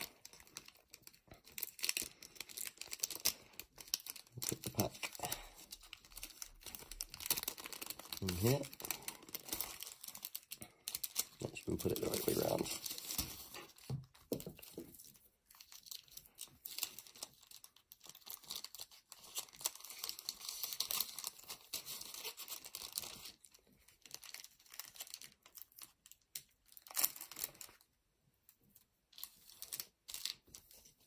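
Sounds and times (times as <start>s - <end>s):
foil wrapper and plastic bag crinkling: 0.0s - 27.9s, 29.1s - 31.0s.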